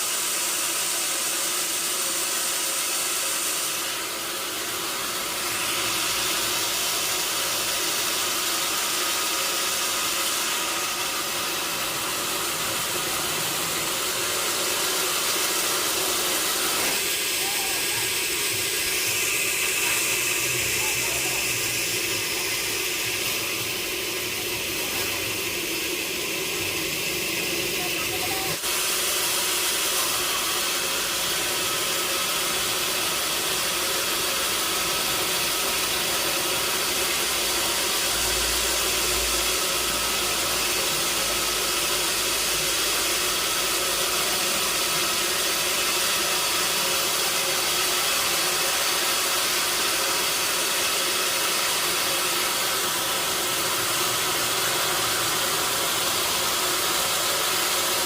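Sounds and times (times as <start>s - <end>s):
sawmill saw cutting timber: 0.0s - 58.0s.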